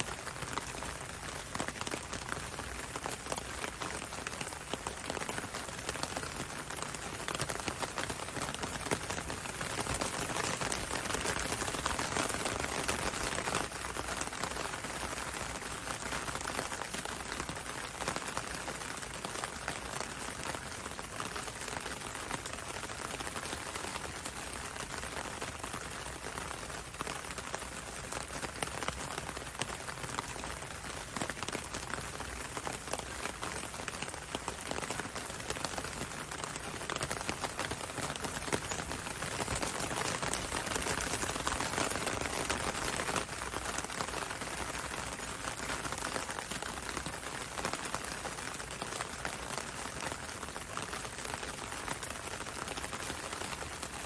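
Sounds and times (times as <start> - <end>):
rain on window and road: 0.0 - 54.0.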